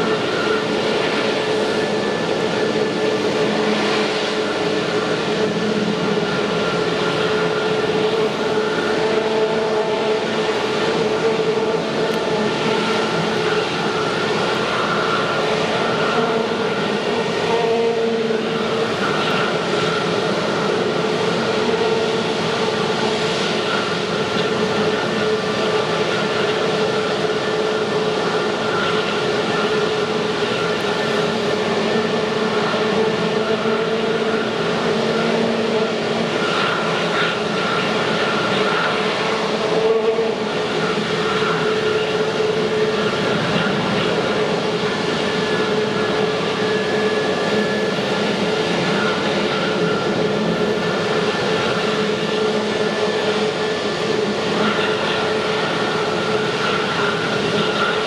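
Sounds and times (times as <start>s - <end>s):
jet engine whine: 0.0s - 58.0s
jet engines droning: 0.0s - 58.0s.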